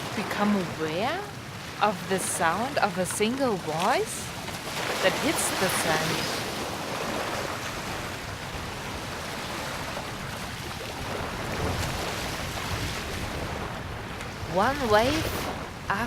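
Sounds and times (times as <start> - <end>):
ocean waves breaking on sand: 0.0 - 16.0.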